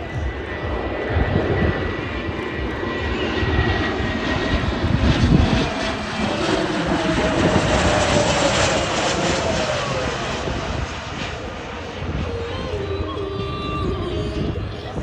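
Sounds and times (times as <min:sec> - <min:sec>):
jet engine whine: 0:00.0 - 0:15.0
jet engines running: 0:00.0 - 0:15.0.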